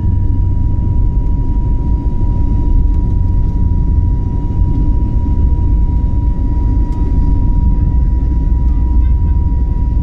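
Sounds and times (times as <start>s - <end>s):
airliner cabin engine rumble: 0.0s - 10.0s
high engine whine: 0.0s - 10.0s.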